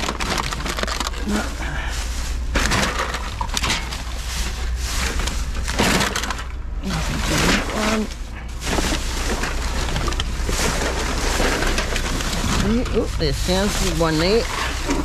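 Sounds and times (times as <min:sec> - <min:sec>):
plastic bags rustling: 0:00.0 - 0:15.0.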